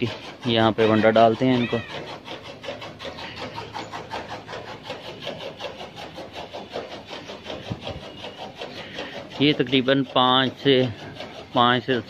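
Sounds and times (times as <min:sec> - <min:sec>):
small motor pulsing hum: 0:00.0 - 0:12.0.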